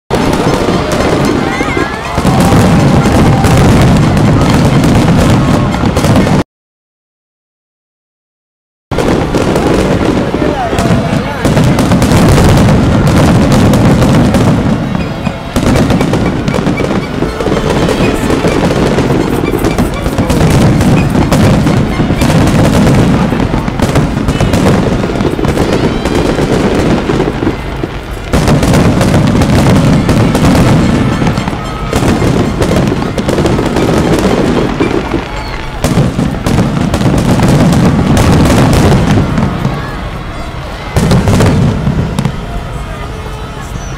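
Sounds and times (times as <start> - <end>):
fireworks bangs and crackles: 0.1 - 6.4, 8.9 - 43.9.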